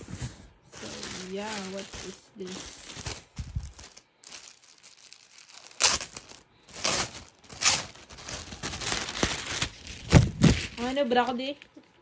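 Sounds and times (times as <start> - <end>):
plastic packaging crinkling and tearing: 0.8 - 11.1.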